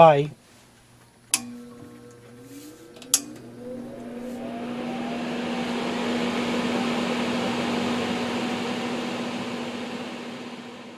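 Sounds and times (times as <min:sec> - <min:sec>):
extractor fan spinning up: 0:01.0 - 0:10.9.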